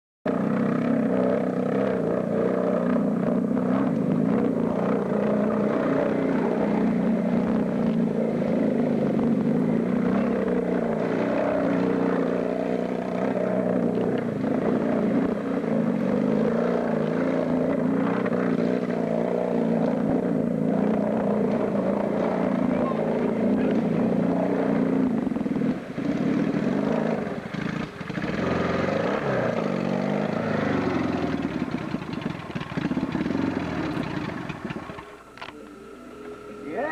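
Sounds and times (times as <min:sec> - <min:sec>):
engine running steadily: 0:00.3 - 0:36.9.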